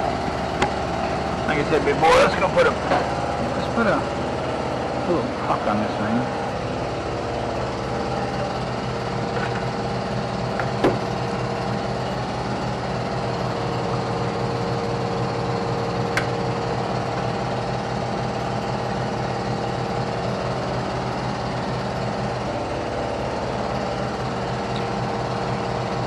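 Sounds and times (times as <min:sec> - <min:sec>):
air compressor running: 0:00.0 - 0:26.0.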